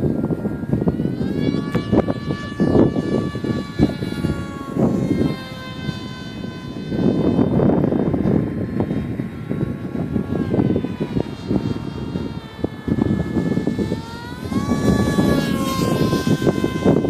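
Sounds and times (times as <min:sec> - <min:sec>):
model plane motor whining: 0:00.0 - 0:17.0
wind buffeting microphone: 0:00.0 - 0:17.0.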